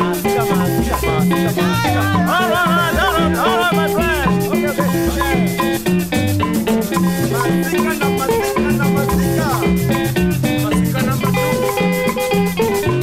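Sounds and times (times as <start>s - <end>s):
bass line: 0.0s - 13.0s
drums: 0.0s - 13.0s
guitar lines with bent notes: 0.0s - 13.0s
steady shaker: 0.0s - 13.0s.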